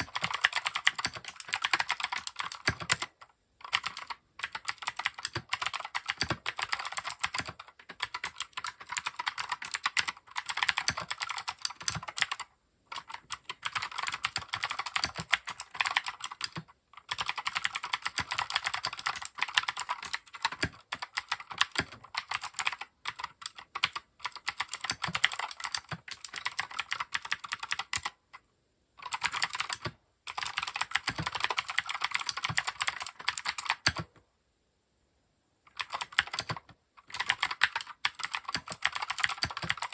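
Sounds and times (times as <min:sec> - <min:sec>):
mechanical keyboard typing: 0:00.0 - 0:28.2, 0:29.0 - 0:34.1, 0:35.7 - 0:39.9.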